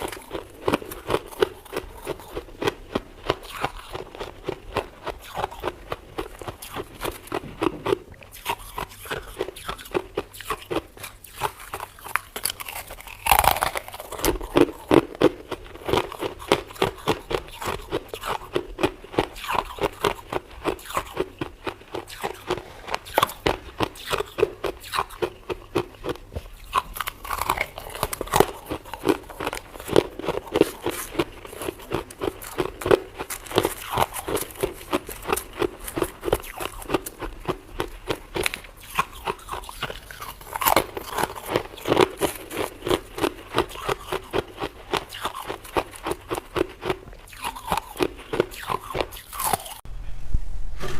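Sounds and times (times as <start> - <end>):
crunchy chewing of frost: 0.0 - 49.8.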